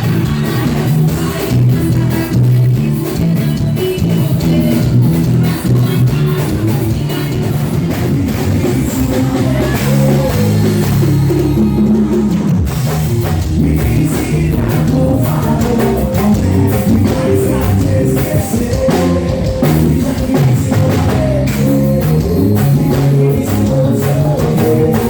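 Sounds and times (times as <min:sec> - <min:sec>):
live band with drums and singing: 0:00.0 - 0:25.0.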